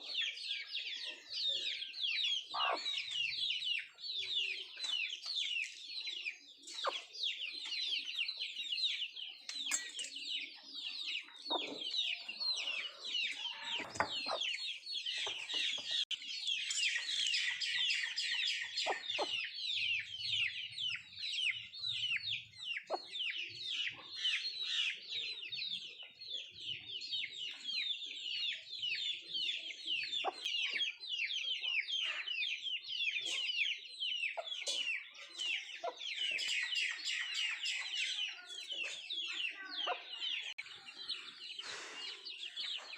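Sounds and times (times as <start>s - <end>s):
chickens clucking: 0.0s - 42.9s
chicks peeping: 0.0s - 42.9s.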